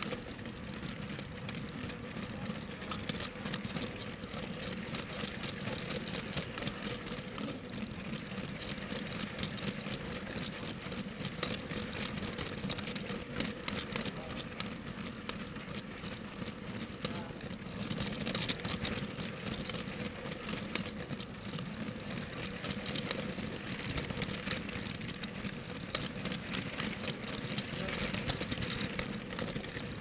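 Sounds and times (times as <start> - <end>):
toy train motor hum: 0.0 - 30.0
wheels clattering on plastic track: 0.0 - 30.0.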